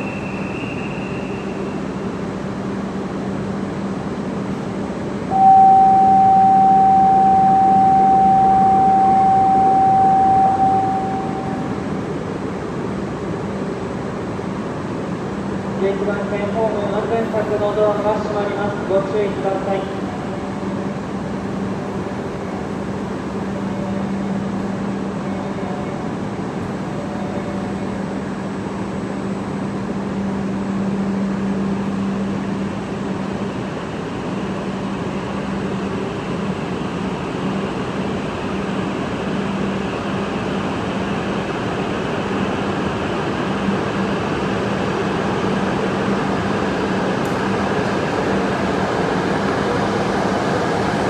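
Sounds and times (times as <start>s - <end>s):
electric train hum: 0.0s - 51.0s
train rushing noise: 0.0s - 51.0s.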